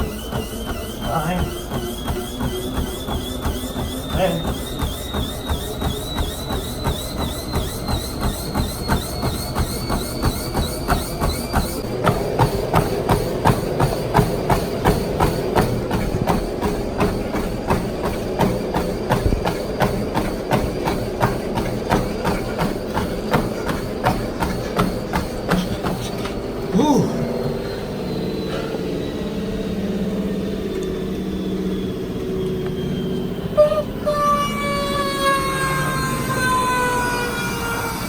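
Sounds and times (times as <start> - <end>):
high motor whine: 0.0 - 38.0
running footfalls on treadmill: 0.0 - 38.0
treadmill motor and belt noise: 0.0 - 38.0.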